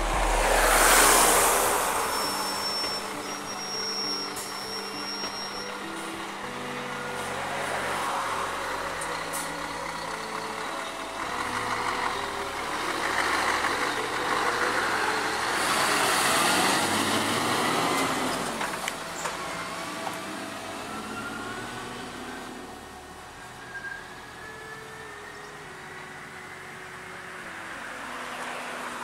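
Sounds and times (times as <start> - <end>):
diesel truck driving past: 0.0 - 29.0.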